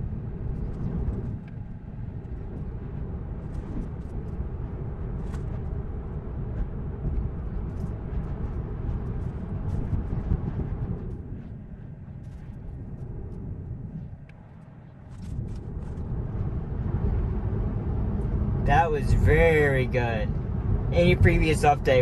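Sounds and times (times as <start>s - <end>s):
tyre and road noise in car: 0.0s - 11.7s, 15.0s - 22.0s.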